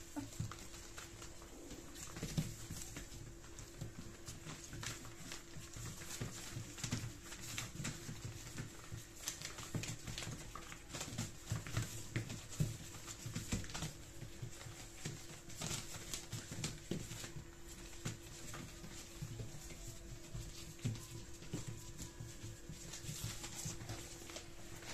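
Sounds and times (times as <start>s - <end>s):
newspaper rustling and crinkling: 0.0s - 24.9s
puppy paws pattering: 0.0s - 24.9s.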